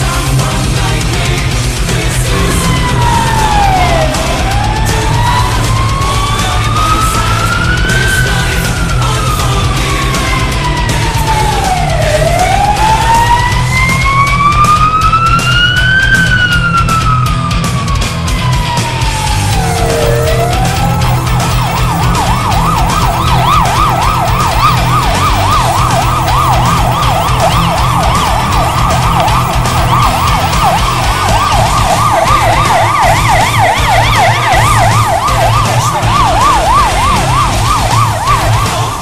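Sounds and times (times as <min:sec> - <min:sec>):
higher-pitched yelping siren: 0:02.2 - 0:39.0
yelping siren: 0:02.2 - 0:39.0.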